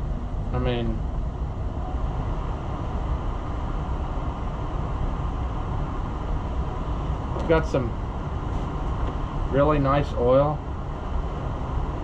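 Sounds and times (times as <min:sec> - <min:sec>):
low rushing noise: 0:00.0 - 0:12.0.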